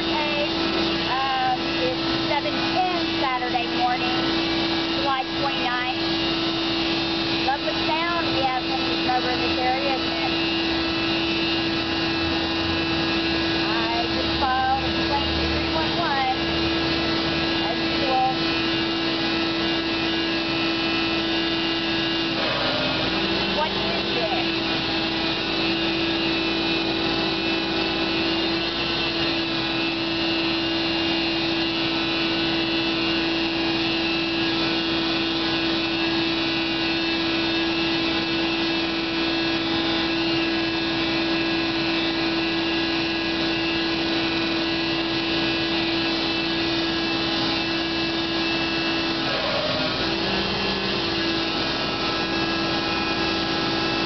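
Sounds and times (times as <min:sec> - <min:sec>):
construction machinery drone: 0:00.0 - 0:54.0
mechanical whine: 0:00.0 - 0:54.0.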